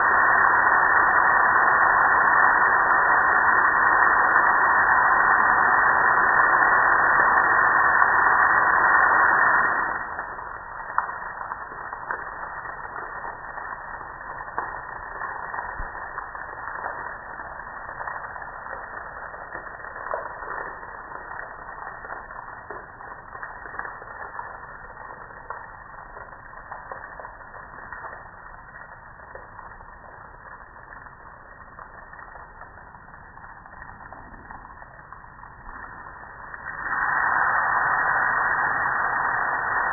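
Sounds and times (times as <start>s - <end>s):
hose water spraying: 0.0s - 35.0s, 35.6s - 39.9s
water dripping and trickling: 0.0s - 39.9s.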